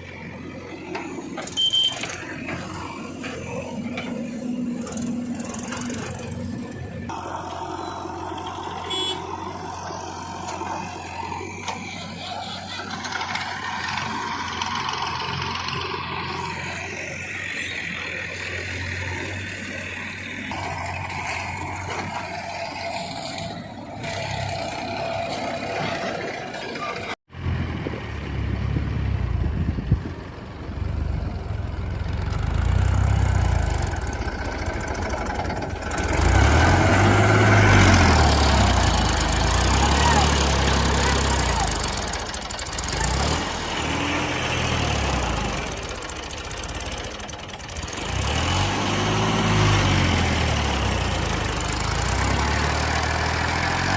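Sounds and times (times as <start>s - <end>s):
diesel engines under load: 0.0s - 53.9s.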